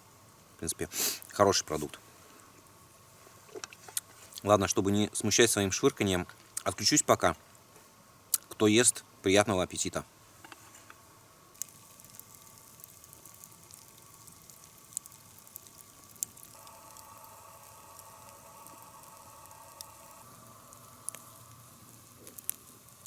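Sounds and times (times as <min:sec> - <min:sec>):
faint campfire crackling: 0:00.0 - 0:23.0
faint steady tone: 0:00.0 - 0:23.0
low steady hiss: 0:00.0 - 0:23.0.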